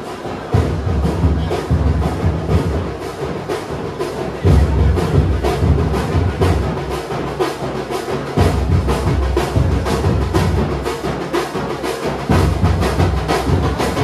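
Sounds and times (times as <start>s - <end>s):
fast drum beats: 0.0s - 14.0s.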